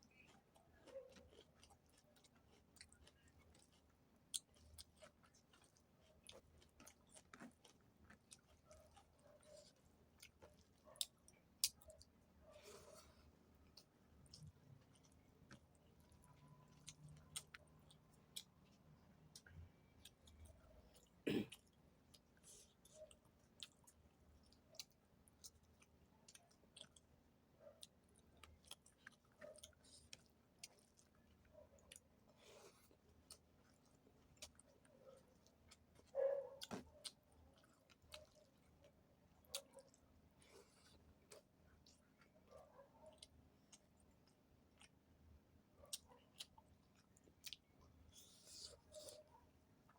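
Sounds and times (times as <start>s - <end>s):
person chewing: 0.0s - 27.1s, 27.8s - 45.0s, 45.9s - 49.9s.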